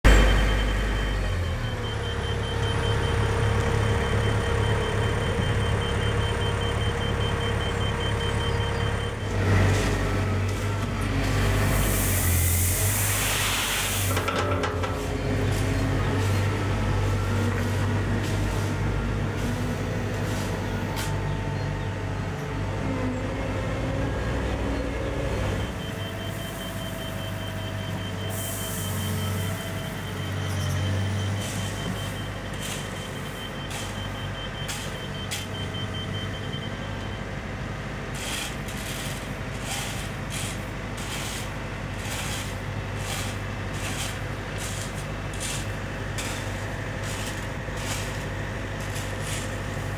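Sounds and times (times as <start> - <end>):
reversing alarm beeping: 0.0 - 13.0, 14.0 - 22.4, 24.0 - 37.6, 38.2 - 49.9
diesel engines under load: 0.0 - 49.9.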